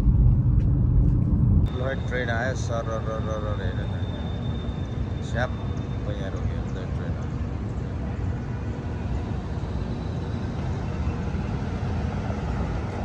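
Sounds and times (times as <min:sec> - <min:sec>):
low rumble of street vehicles: 0:00.0 - 0:13.0.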